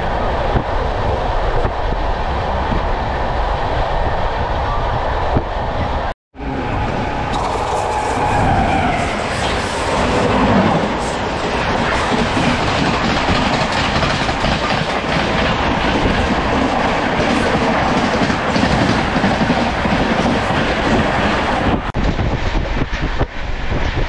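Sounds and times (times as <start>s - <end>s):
moving train rushing: 0.0s - 24.0s
passing train alongside: 0.0s - 24.0s.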